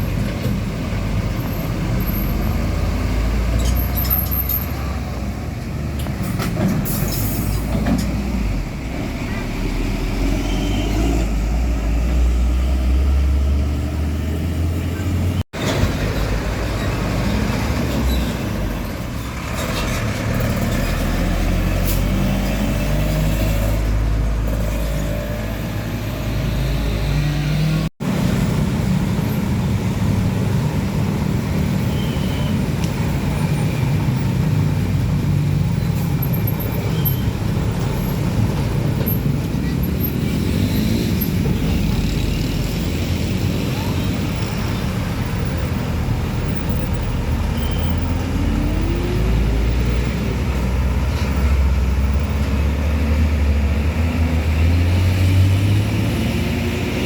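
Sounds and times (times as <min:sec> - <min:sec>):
diesel trucks driving past: 0:00.0 - 0:57.0
road noise: 0:00.0 - 0:57.0.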